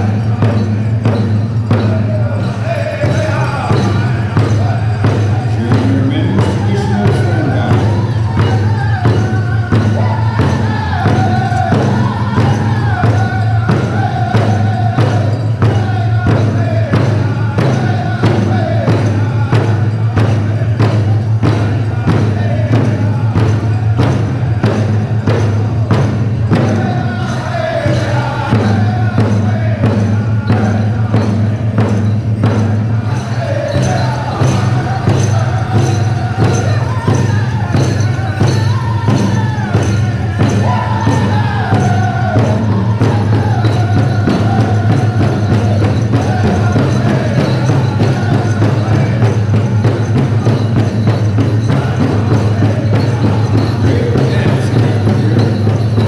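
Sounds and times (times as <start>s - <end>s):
large drum beating: 0.0s - 56.0s
men singing: 0.0s - 56.0s.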